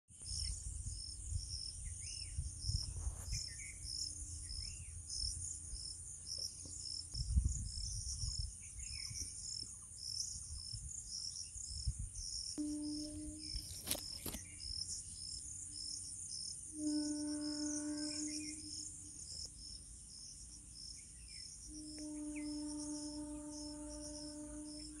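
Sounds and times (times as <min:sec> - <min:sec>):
crickets chirping: 0:00.2 - 0:25.0.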